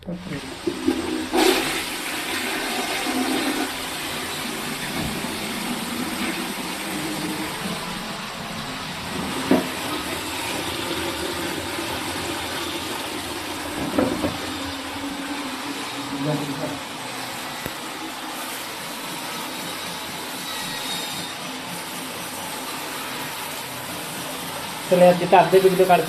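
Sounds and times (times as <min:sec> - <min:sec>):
toilet flushing: 0:00.0 - 0:26.0.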